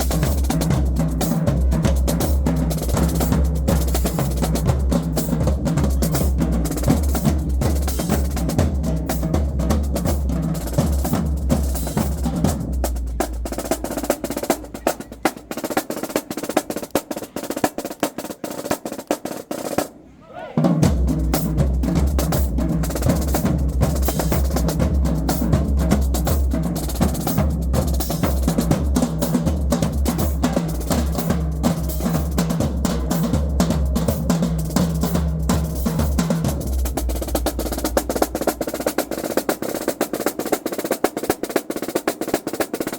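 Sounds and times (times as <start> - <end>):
bass drums: 0.0 - 15.7, 20.8 - 40.1
marching drumline playing: 0.0 - 42.9.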